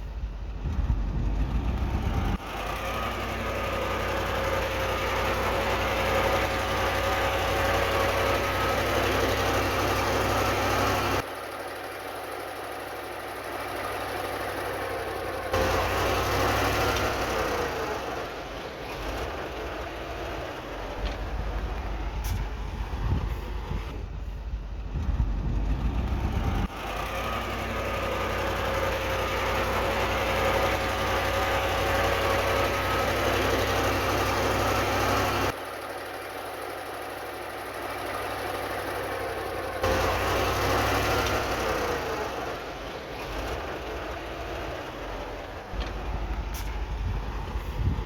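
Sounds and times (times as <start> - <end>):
diesel engine rumble: 0.0 - 48.0.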